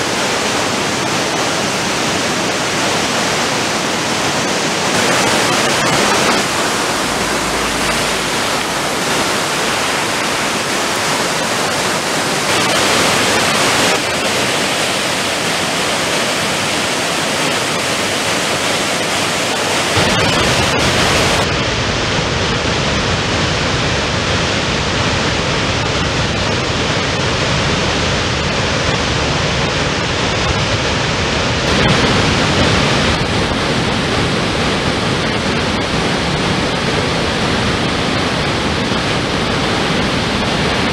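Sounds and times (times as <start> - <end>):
floodwater pouring down spillway: 0.0 - 40.9
waterfall rushing: 0.0 - 40.9.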